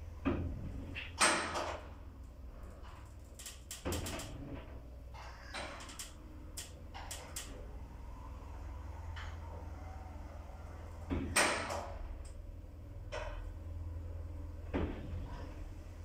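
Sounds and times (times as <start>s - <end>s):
lift doors sliding shut: 0.0s - 2.1s, 2.8s - 16.0s
low steady lift hum: 0.0s - 16.0s.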